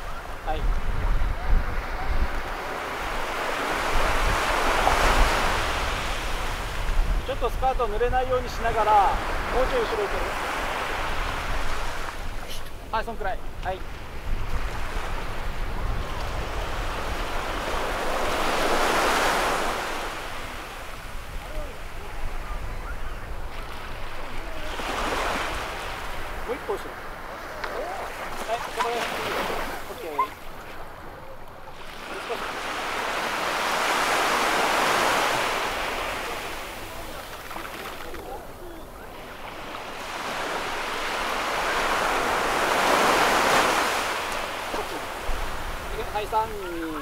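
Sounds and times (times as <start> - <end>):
wind rumbling on microphone: 0.0 - 31.8, 39.6 - 46.6
waves breaking on a beach: 0.0 - 47.0.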